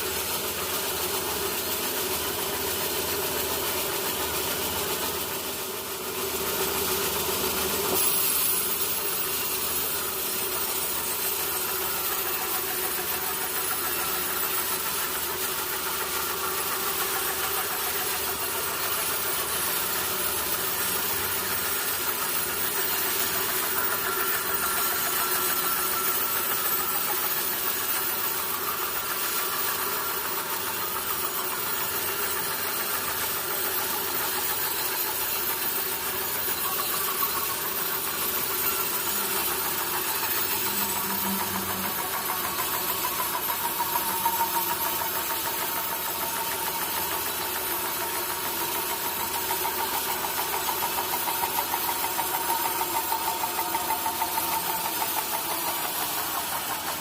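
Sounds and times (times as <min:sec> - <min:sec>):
sawmill motor and saw: 0:00.0 - 0:57.0.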